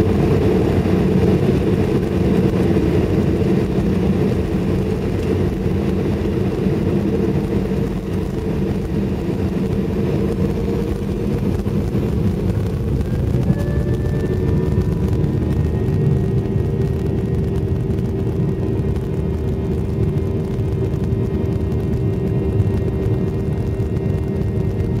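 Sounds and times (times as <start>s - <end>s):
faint engine whine: 0.0s - 25.0s
jet engines and wheels rumbling: 0.0s - 25.0s.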